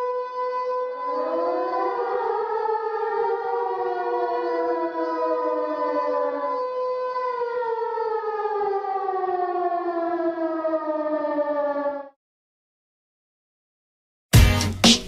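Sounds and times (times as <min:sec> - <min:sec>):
descending siren-like wailing tones: 0:00.0 - 0:12.2.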